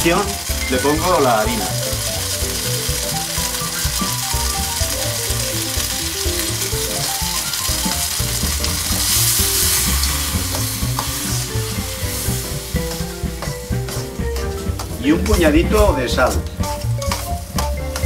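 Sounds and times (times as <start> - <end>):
bread frying in oil: 0.0 - 18.0
melodic background music: 0.0 - 18.0
spatula stirring in pan: 1.5 - 18.0.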